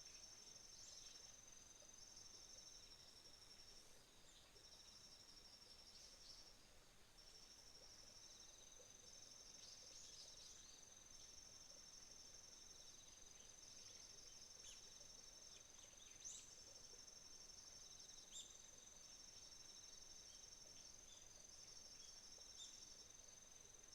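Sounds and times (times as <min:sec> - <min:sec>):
lower insect trill: 0:00.0 - 0:23.9.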